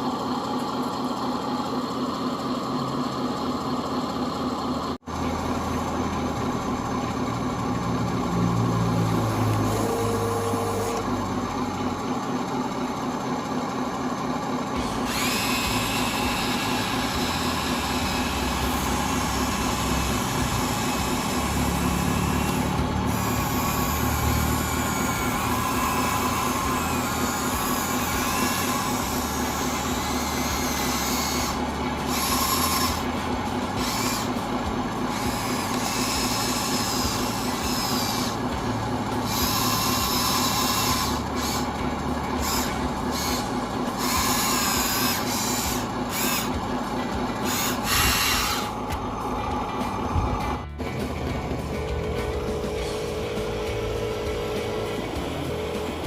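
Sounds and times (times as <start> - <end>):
higher motor whine: 0.0 - 56.0
small electric motors whining: 5.2 - 13.2, 14.6 - 50.7, 51.8 - 56.0.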